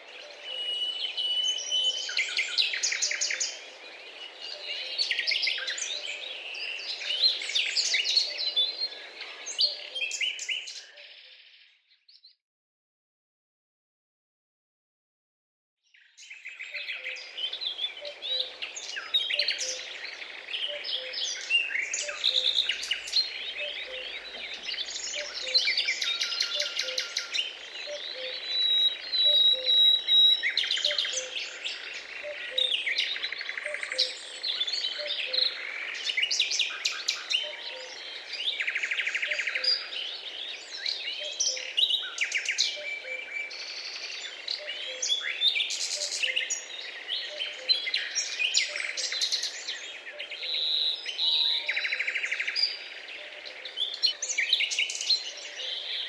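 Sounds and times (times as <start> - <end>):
small birds chirping and trilling: 0.0 - 12.4, 15.8 - 56.0.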